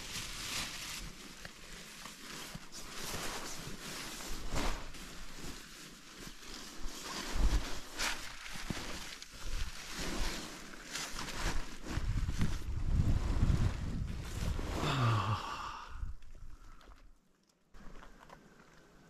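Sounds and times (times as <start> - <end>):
sleeping bag fabric rustling: 0.0 - 15.3.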